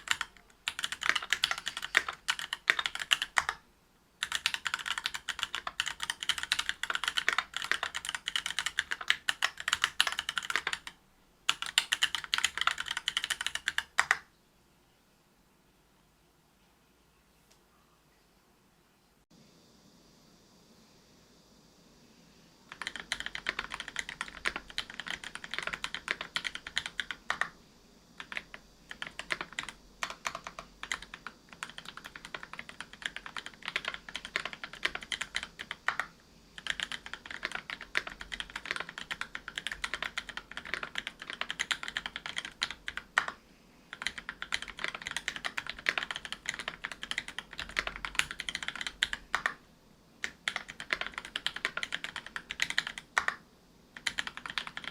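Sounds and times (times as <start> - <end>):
mechanical keyboard typing: 0.0 - 3.6, 4.2 - 14.2, 22.7 - 27.6, 28.2 - 49.6, 50.2 - 53.4, 54.0 - 54.9.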